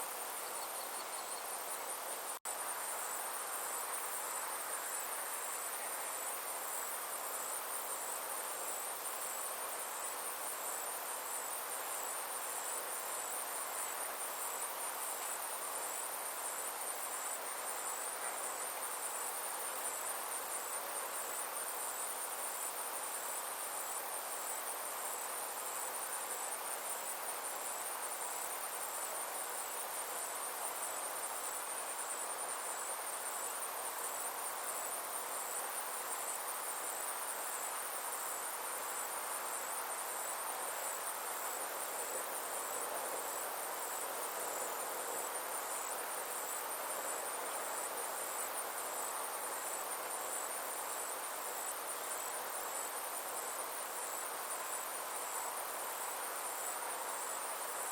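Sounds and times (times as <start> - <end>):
insects trilling: 0.0 - 57.9
soft hiss: 0.0 - 57.9.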